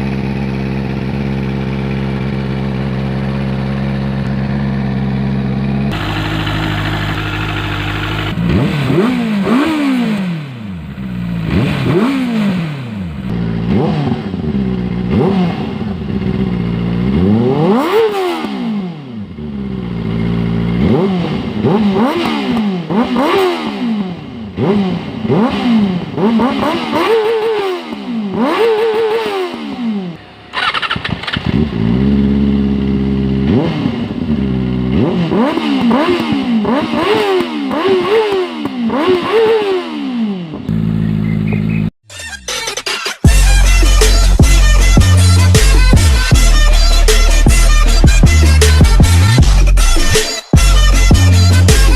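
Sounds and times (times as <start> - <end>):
motorcycle engine idling and revving: 0.0 - 42.0, 43.2 - 51.9.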